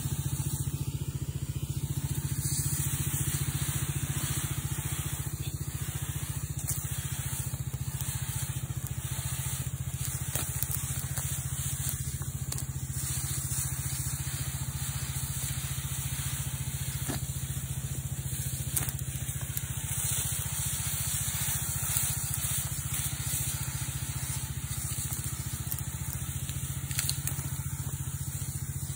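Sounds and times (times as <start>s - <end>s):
small petrol engine running: 0.0s - 28.9s
spray hissing: 0.0s - 28.9s.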